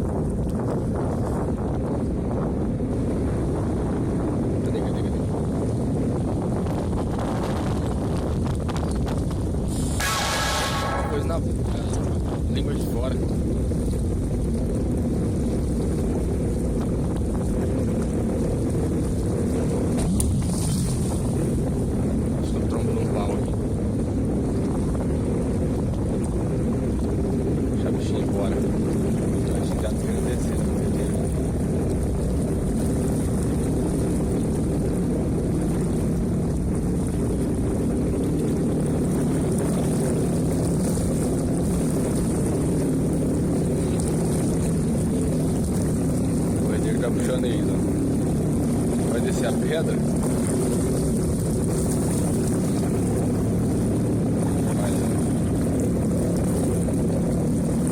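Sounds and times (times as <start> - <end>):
jet ski engine running: 0.0 - 57.9
wind buffeting microphone: 0.0 - 57.9.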